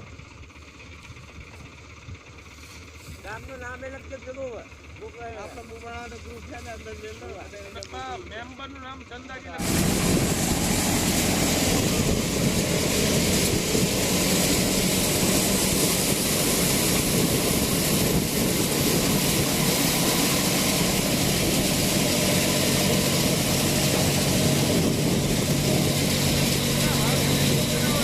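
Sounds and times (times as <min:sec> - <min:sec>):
thresher machine noise: 0:00.0 - 0:28.0
tractor engine drone: 0:00.0 - 0:28.0.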